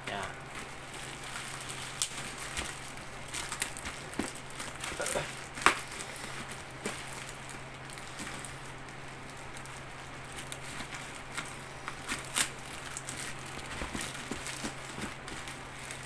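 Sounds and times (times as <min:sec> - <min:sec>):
plastic bag crinkling: 0:00.0 - 0:16.0
steady low hum: 0:00.0 - 0:16.0.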